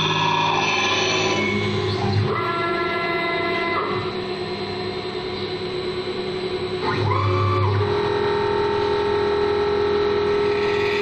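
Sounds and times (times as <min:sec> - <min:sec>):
ringing whine: 0:00.0 - 0:11.0.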